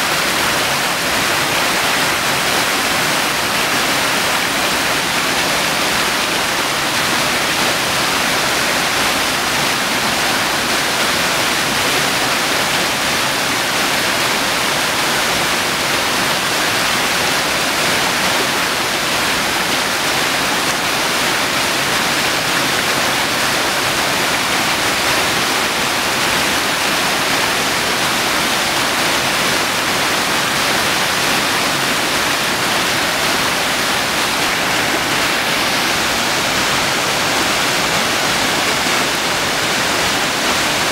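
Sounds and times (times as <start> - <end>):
creek rushing over stones: 0.0 - 40.9.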